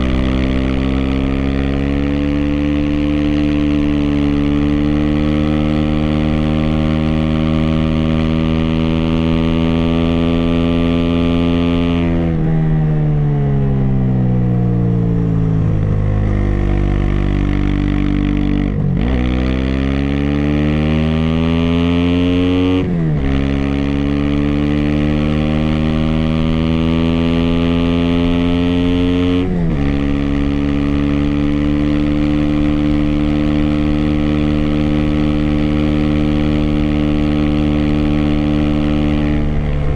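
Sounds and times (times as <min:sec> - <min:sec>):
motorcycle engine revving: 0:00.0 - 0:12.9, 0:13.5 - 0:39.9.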